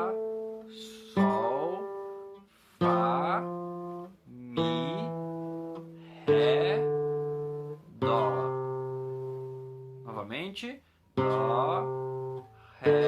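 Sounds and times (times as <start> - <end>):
classical guitar plucked notes: 0.0 - 10.3, 11.2 - 13.0.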